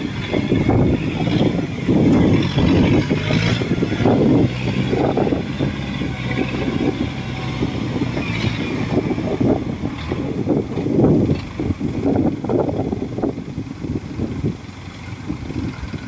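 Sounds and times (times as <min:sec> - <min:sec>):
farm machinery engine running: 0:00.0 - 0:16.0
irregular rumbling bursts: 0:00.0 - 0:16.0.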